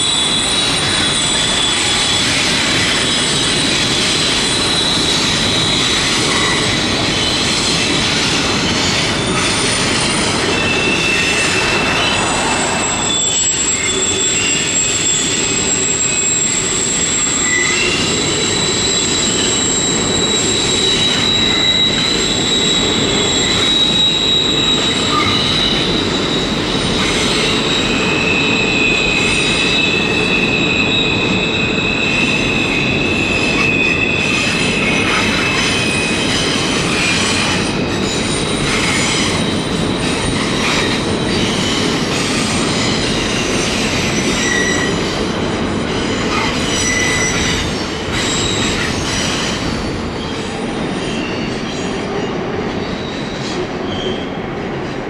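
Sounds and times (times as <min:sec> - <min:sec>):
freight train rumble: 0:00.0 - 0:55.0
train wheels squealing: 0:00.0 - 0:55.0.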